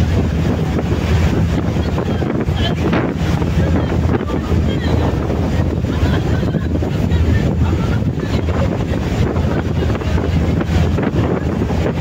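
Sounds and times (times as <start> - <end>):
water wash: 0.0 - 12.0
wind buffeting microphone: 0.0 - 12.0.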